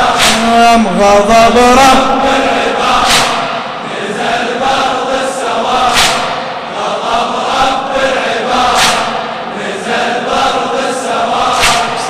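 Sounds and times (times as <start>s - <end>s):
crowd chanting: 0.0s - 12.0s.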